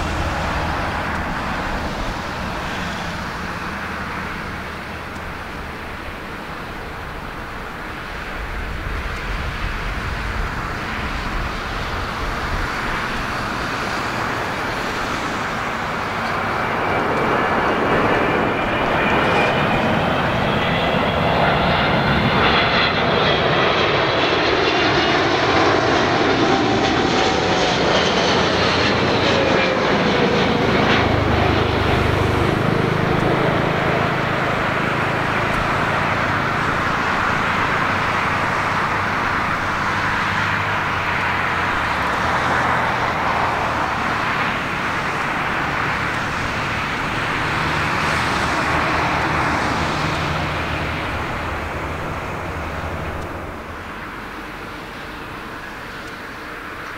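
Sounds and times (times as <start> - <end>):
jet airliner passing low: 0.0 - 56.9.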